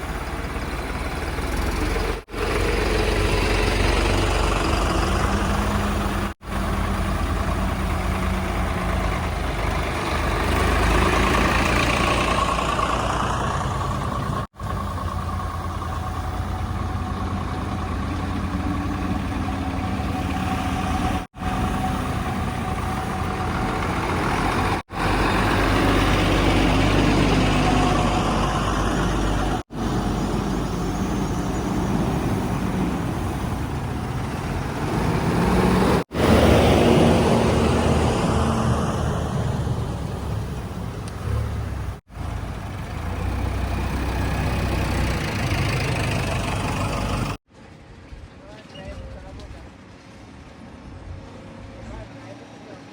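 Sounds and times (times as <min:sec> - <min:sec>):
diesel engines running: 0:00.0 - 0:48.4.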